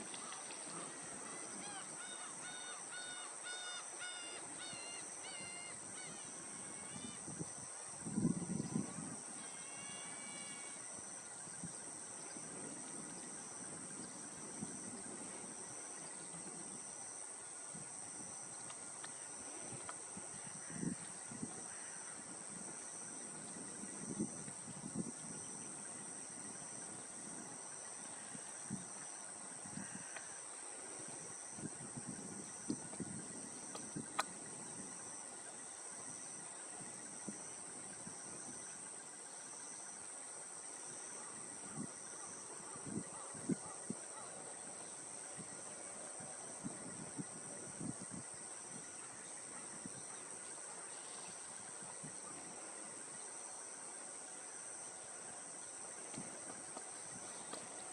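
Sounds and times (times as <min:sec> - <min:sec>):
high-pitched insect trill: 0:00.0 - 0:57.9
pulsing insect call: 0:00.0 - 0:57.9.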